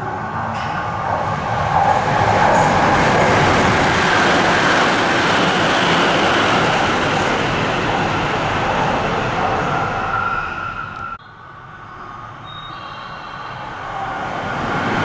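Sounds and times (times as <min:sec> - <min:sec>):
train passing at high speed: 0:00.0 - 0:15.0.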